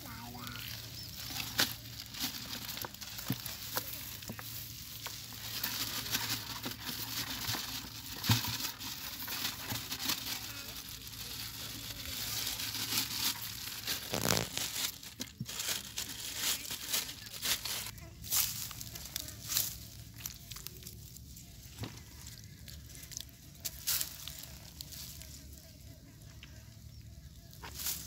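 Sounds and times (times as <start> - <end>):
dry straw rustling: 0.0 - 28.0
plastic bag crinkling: 0.1 - 25.7.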